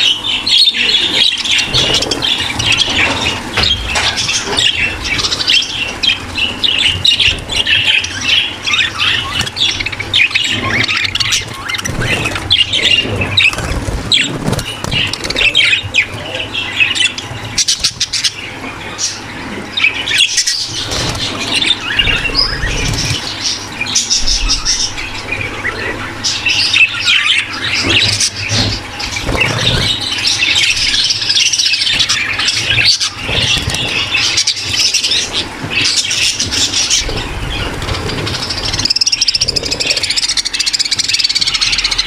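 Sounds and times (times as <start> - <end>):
budgerigar flock chattering: 0.0 - 42.0.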